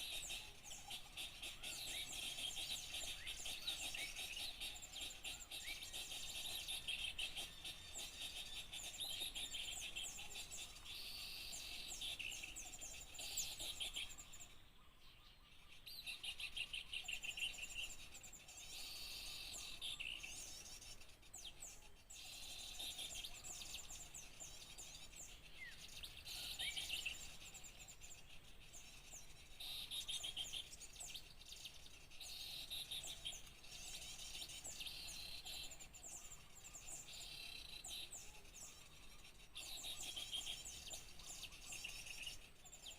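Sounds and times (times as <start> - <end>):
small songbirds chirping and trilling: 0.0 - 42.9.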